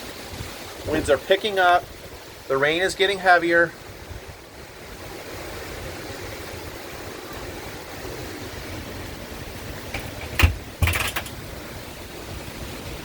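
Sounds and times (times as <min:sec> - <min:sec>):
heavy rain: 0:00.0 - 0:13.0
wind buffeting microphone: 0:00.0 - 0:13.0.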